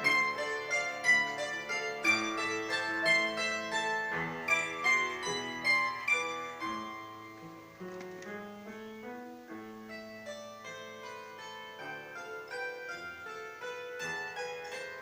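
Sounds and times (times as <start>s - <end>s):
bandura plucked strings: 0.0s - 8.8s, 9.6s - 15.0s.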